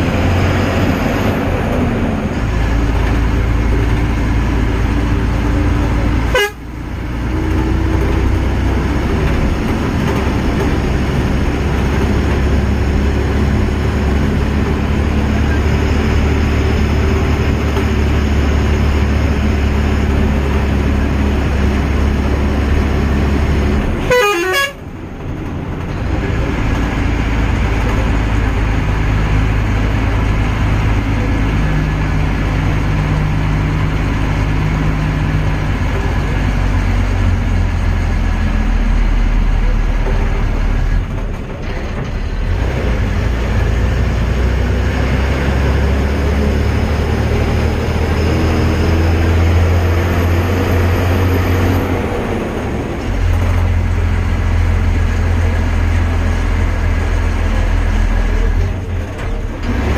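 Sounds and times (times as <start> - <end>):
road and wind noise: 0.0 - 59.9
vehicle engine driving: 0.0 - 59.9.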